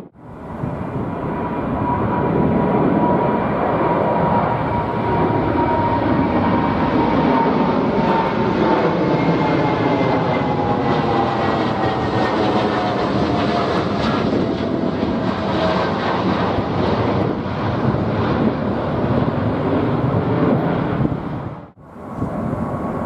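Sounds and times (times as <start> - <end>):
jet engine roar overhead: 0.0 - 23.0
jet whine falling in pitch: 0.0 - 23.0.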